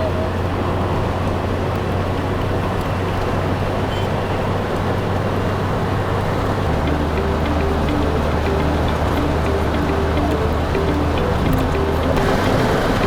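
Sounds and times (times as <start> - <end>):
road and engine noise: 0.0 - 13.0.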